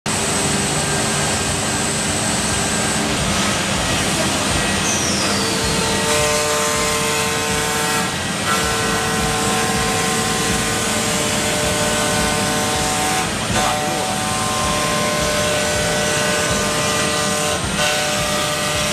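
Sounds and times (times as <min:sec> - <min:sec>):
steady tones: 0:00.1 - 0:18.9
wood router cutting: 0:00.1 - 0:18.9.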